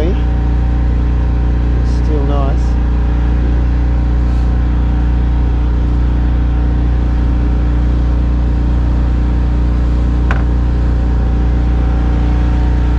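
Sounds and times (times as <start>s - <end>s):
outboard motor running: 0.0s - 12.9s.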